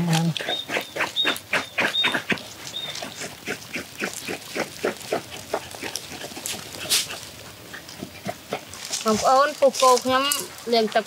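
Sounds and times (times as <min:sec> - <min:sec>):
rough rhythmic scrubbing: 0:00.0 - 0:11.0.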